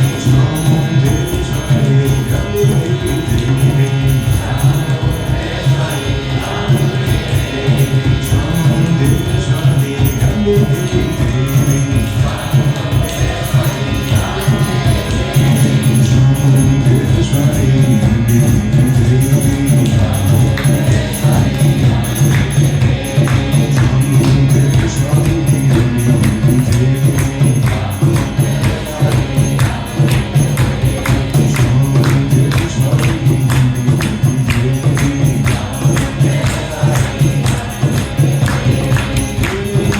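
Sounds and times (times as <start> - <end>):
jingling hand percussion: 0.0 - 39.9
voices chanting in song: 0.0 - 39.9.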